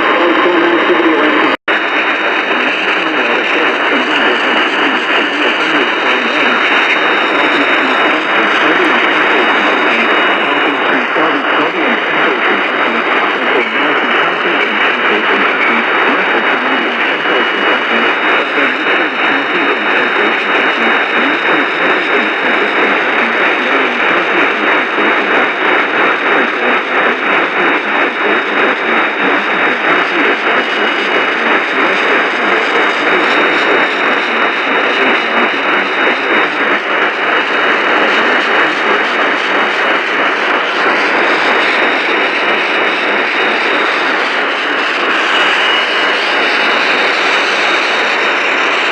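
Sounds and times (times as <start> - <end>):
radio static hiss: 0.0 - 48.9.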